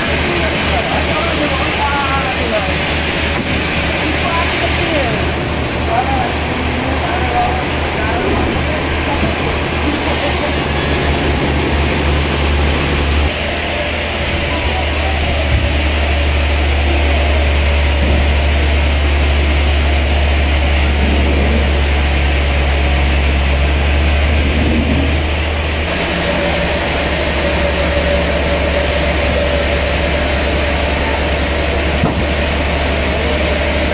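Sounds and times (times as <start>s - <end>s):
sawmill machinery drone: 0.0s - 33.9s.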